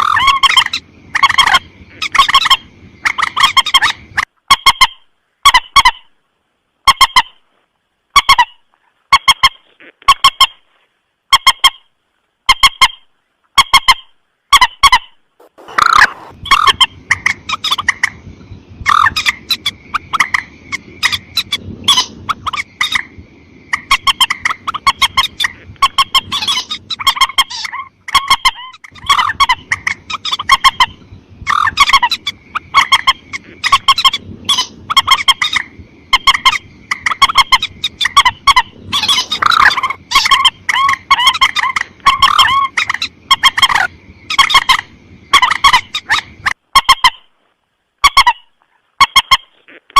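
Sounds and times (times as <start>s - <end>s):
rail bird calls: 0.0s - 6.2s, 12.5s - 47.3s
faint low hiss: 0.0s - 49.9s.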